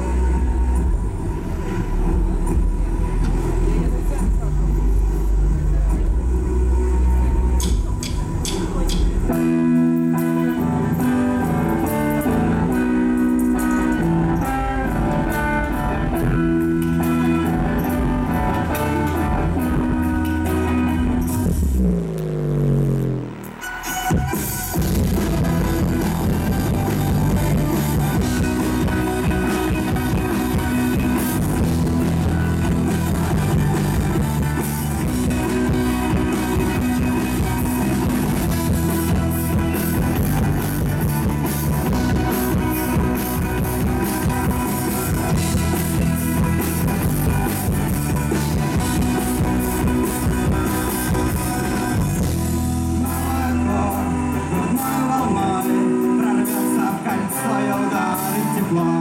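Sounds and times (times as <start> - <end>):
electric violin: 0.0 - 56.0
bass guitar: 0.0 - 59.0
drums: 0.0 - 59.0
electric guitars: 0.0 - 59.0.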